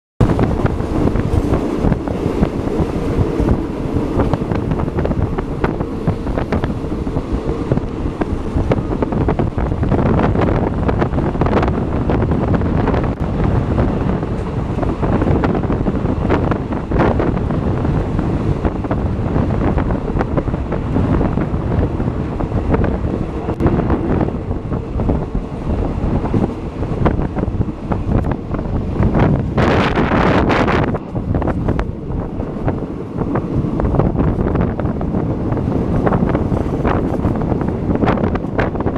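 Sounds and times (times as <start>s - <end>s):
train rumble and wheel clatter: 0.2s - 38.9s
wind buffeting microphone: 0.2s - 38.9s.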